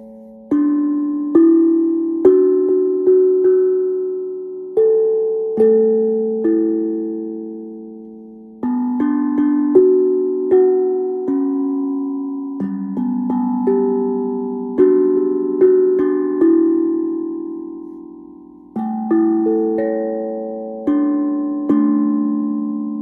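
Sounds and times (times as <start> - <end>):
steel tongue drum melody: 0.0 - 23.0.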